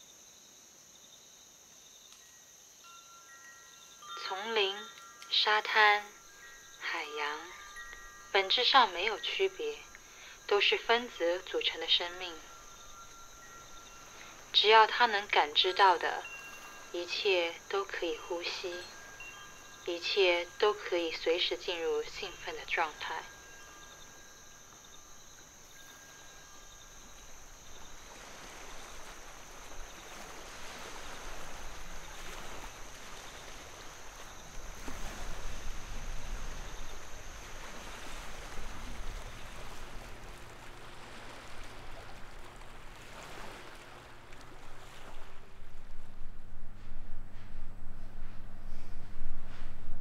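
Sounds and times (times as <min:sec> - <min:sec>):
low steady hum: 0:04.1 - 0:50.0.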